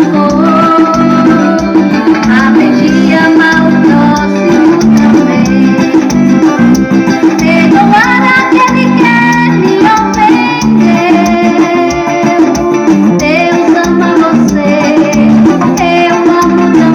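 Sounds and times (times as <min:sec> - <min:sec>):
person singing: 0:00.0 - 0:06.6, 0:07.2 - 0:16.9
plucked guitar: 0:00.0 - 0:16.9
steady beat: 0:00.0 - 0:16.9.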